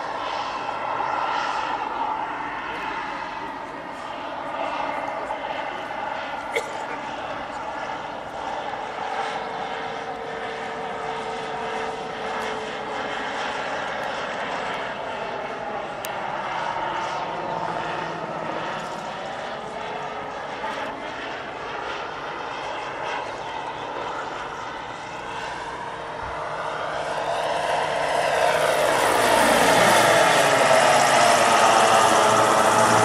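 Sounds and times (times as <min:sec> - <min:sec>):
model helicopter turbine and rotor: 0:00.0 - 0:33.0.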